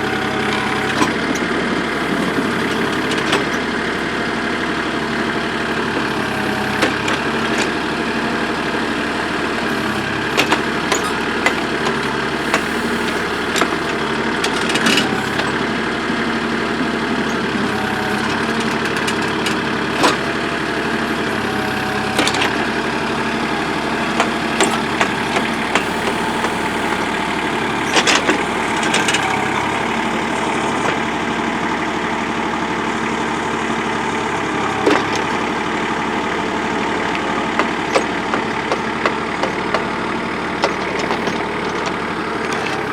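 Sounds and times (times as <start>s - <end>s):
backhoe engine running: 0.0s - 42.9s.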